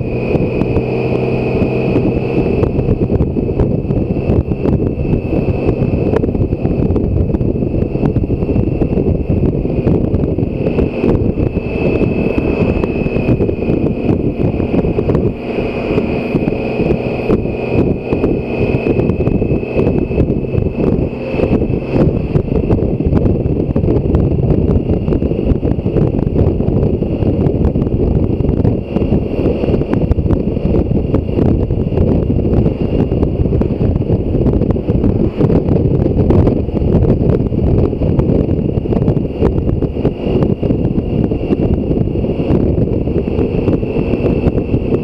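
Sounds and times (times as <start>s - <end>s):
high-pitched whine: 0.0s - 45.0s
motorcycle engine running: 0.0s - 45.0s
wind buffeting microphone: 0.0s - 45.0s.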